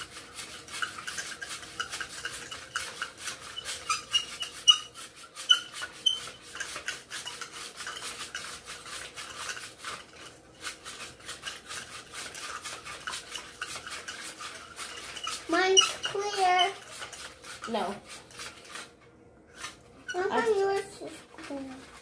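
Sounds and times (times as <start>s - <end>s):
spoon stirring in bowl of water: 0.0s - 20.3s.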